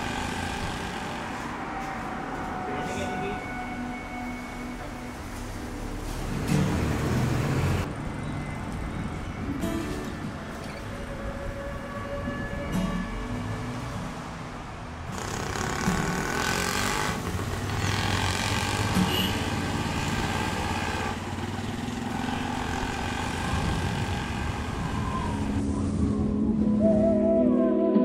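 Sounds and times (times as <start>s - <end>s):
vehicle rumbling: 0.0s - 26.6s.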